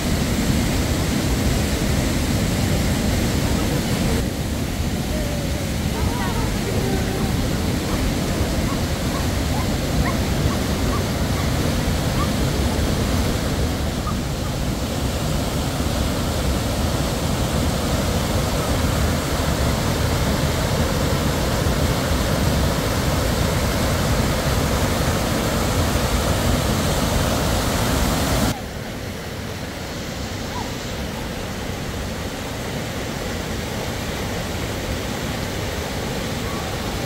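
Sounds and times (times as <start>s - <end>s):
mountain stream rushing over rocks: 0.0s - 37.0s.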